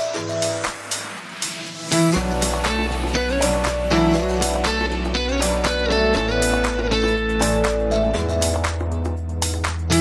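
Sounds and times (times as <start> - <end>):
steady beat: 0.0 - 8.7.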